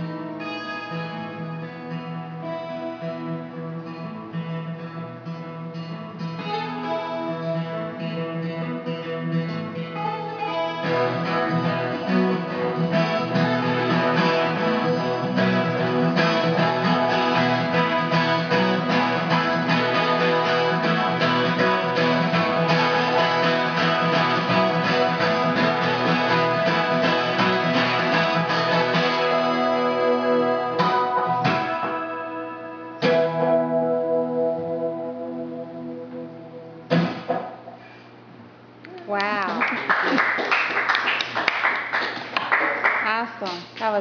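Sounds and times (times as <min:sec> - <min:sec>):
acoustic guitar strumming: 0:00.0 - 0:39.5.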